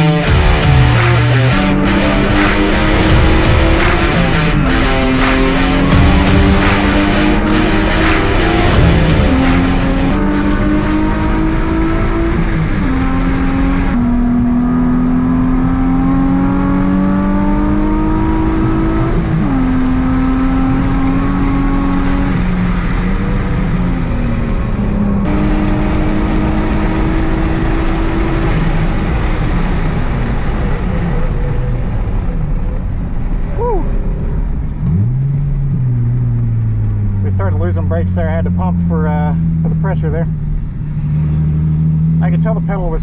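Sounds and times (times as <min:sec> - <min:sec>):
car engine accelerating and shifting: 0:00.0 - 0:43.0.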